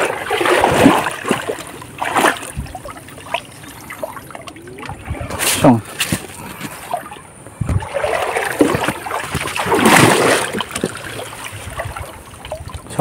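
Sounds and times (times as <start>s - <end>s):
person wading through river water: 0.0s - 13.0s.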